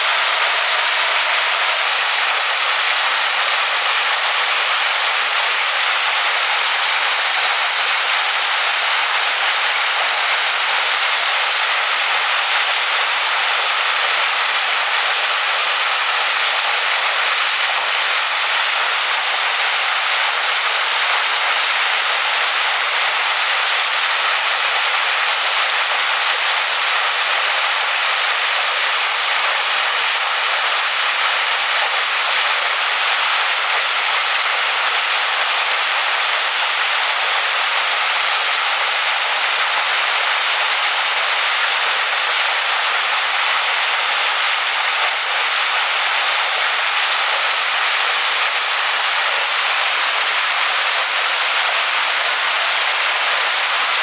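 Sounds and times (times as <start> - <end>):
waterfall pouring onto rocks: 0.0 - 54.0.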